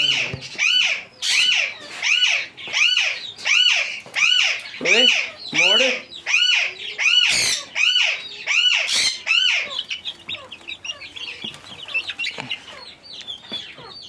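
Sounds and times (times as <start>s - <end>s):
loud harsh bird calls: 0.0s - 14.0s
small birds chirping: 0.0s - 14.0s.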